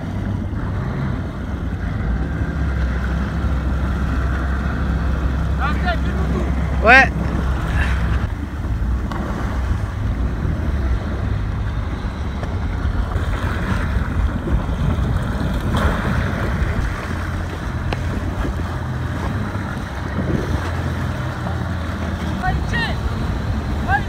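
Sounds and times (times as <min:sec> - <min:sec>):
jet ski engine droning: 0:00.0 - 0:24.0
wind buffeting microphone: 0:00.0 - 0:24.0.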